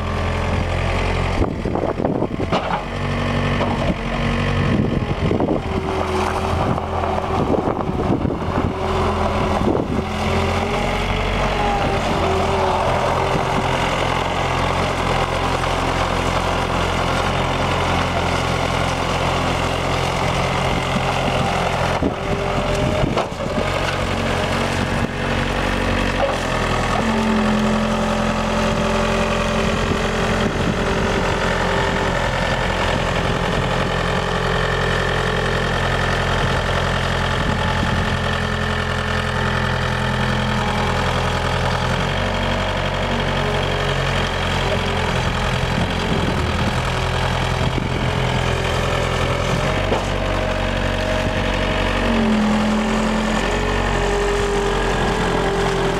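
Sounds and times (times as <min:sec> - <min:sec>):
loader engine running: 0:00.0 - 0:55.9.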